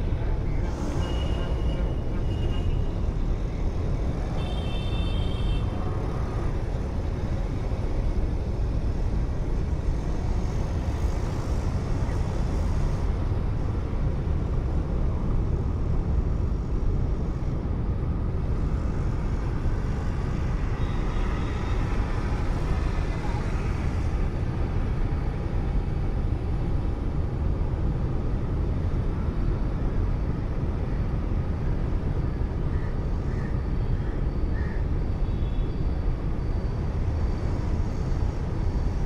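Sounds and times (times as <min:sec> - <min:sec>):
car road and engine noise: 0:00.0 - 0:39.0.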